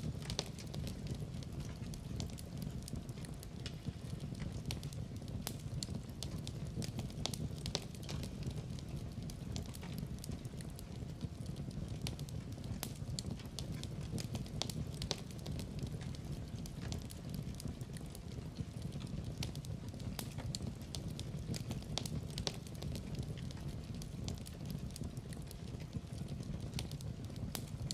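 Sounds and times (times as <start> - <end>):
fire popping: 0.0 - 27.9
fire rumbling: 0.0 - 27.9.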